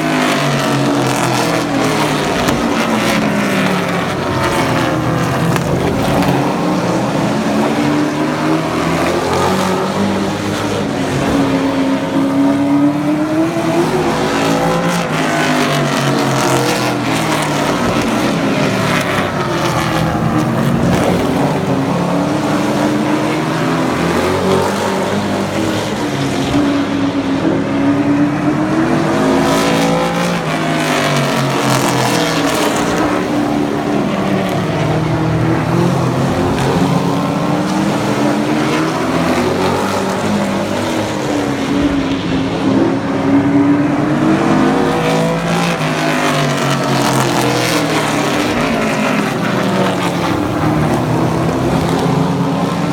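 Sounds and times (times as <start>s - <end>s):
race truck engines running hard: 0.0s - 52.9s.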